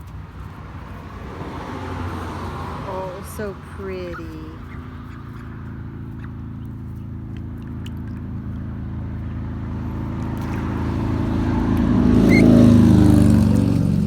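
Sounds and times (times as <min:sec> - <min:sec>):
motorcycle engine approaching: 0:00.0 - 0:14.0.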